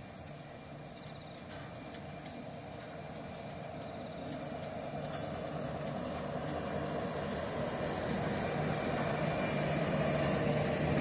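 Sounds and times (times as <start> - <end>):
diesel locomotive engines droning: 0.0 - 11.0.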